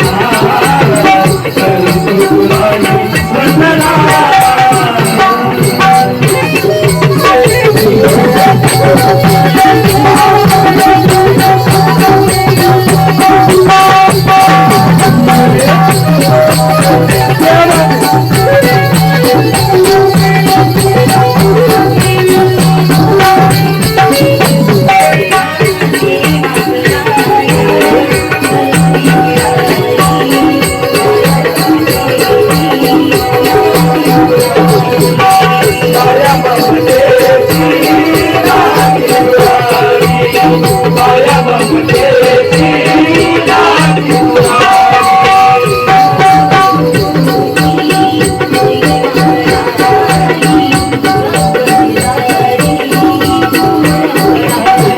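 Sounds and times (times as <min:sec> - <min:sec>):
drum and rattling percussion: 0:00.0 - 0:54.9.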